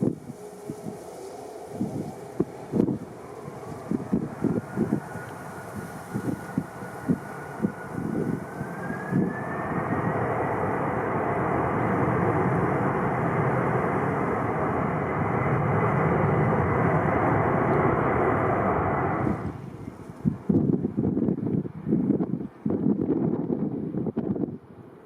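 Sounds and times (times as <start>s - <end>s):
jet engines spooling up: 0.0s - 21.4s
wind buffeting microphone: 0.0s - 25.0s.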